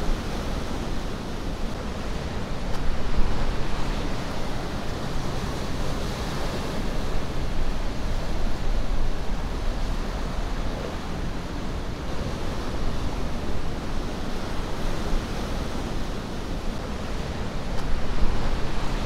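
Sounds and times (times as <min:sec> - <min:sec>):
low wind rumble: 0:00.0 - 0:19.0
waves breaking: 0:00.1 - 0:19.0.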